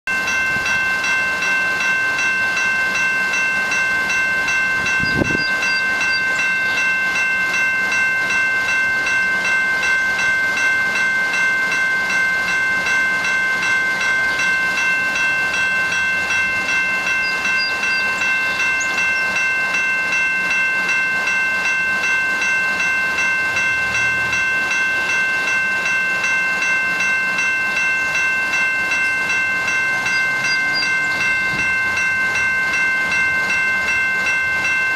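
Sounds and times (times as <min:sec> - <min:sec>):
train high-pitched whine: 0:00.1 - 0:34.9.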